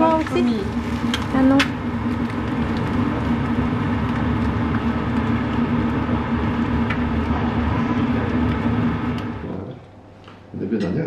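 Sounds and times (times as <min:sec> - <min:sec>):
eggs sizzling in a frying pan: 0:00.0 - 0:09.5
steady hum: 0:00.0 - 0:11.0.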